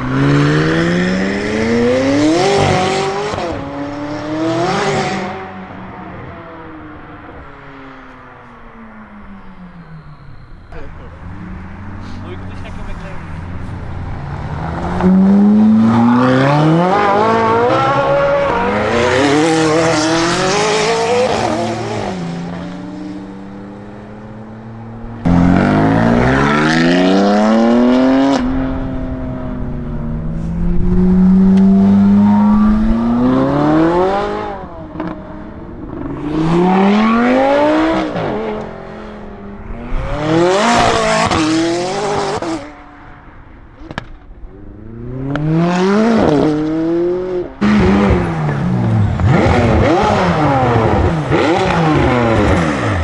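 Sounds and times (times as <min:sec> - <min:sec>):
supercar engines accelerating hard: 0:00.0 - 0:07.5, 0:10.8 - 0:42.8, 0:44.0 - 0:53.0.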